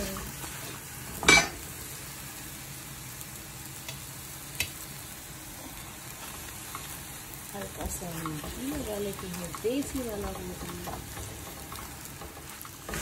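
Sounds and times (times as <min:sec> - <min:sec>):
bread sizzling on a griddle: 0:00.0 - 0:13.0.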